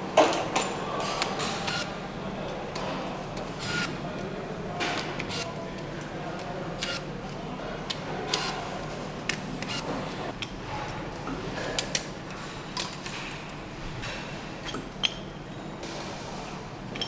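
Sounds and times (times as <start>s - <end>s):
workshop low hum: 0.0s - 17.0s.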